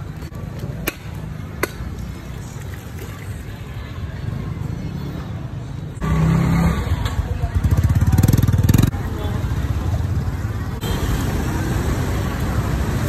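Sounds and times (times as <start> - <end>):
crowd noise: 0.0 - 13.0
motorbike engines rumbling: 0.0 - 13.0.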